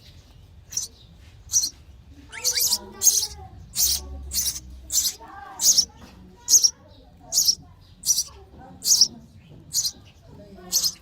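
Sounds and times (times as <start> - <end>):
nestlings chirping for food: 0.0 - 11.0.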